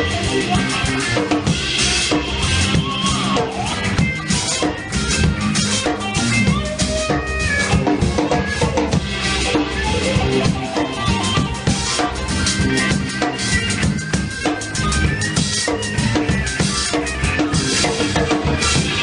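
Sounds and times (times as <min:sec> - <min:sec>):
bass and guitar: 0:00.0 - 0:19.0
drum kit beat: 0:00.0 - 0:19.0.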